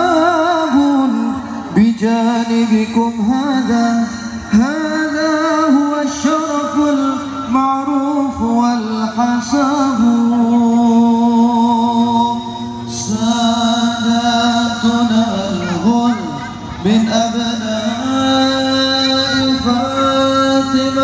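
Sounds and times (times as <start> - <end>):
man singing over sound system: 0.0 - 21.0.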